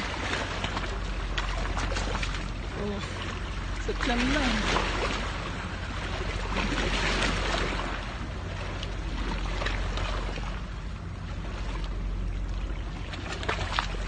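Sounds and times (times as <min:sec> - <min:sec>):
constant low rumble: 0:00.0 - 0:14.0
sea: 0:00.0 - 0:14.0.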